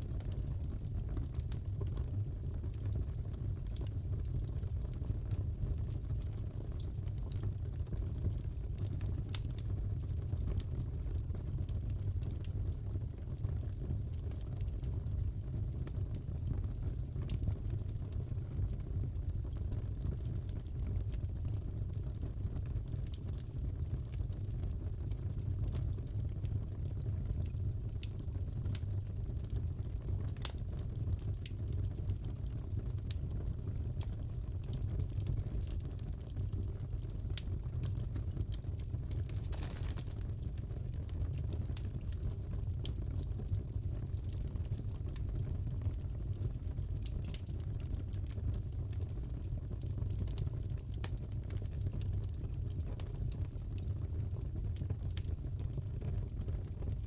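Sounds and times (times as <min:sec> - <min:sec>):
fire burning rumble: 0:00.0 - 0:57.0
fire popping and snapping: 0:00.1 - 0:57.0.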